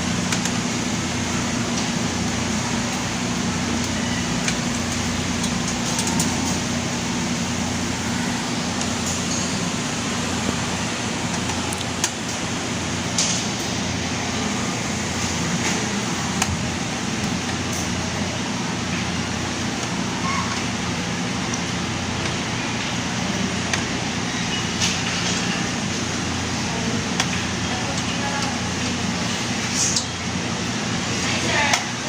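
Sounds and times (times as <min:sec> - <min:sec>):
background hum and hiss: 0:00.0 - 0:32.0.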